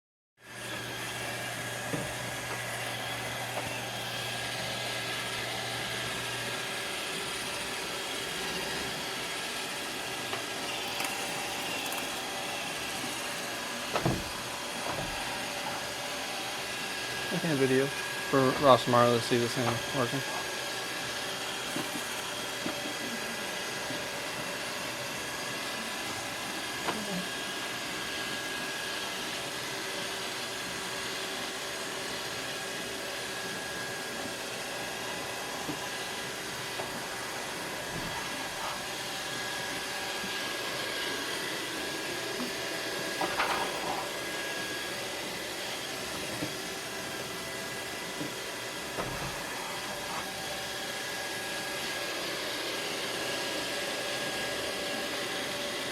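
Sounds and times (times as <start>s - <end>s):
robot vacuum whirring: 0.4s - 55.9s.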